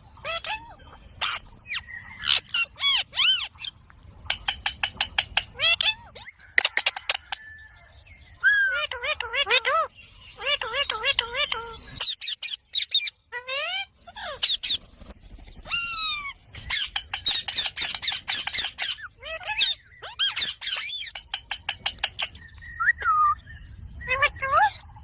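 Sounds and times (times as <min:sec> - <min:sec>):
parrot chattering: 0:00.2 - 0:07.2, 0:08.5 - 0:14.8, 0:15.7 - 0:22.4, 0:24.1 - 0:24.8.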